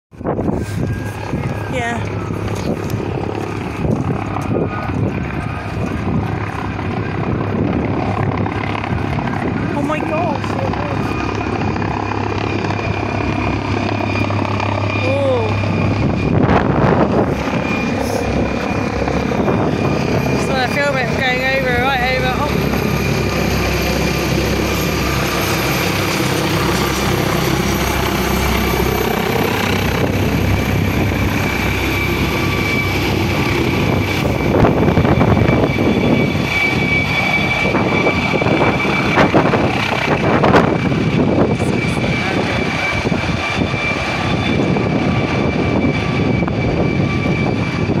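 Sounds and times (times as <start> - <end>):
helicopter rotor beating: 0.1 - 48.0
helicopter turbine whine: 0.1 - 48.0.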